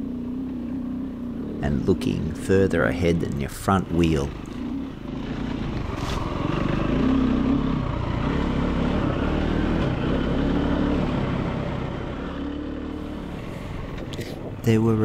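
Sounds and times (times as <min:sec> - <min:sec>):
dirt bike engine revving: 0:00.0 - 0:14.3.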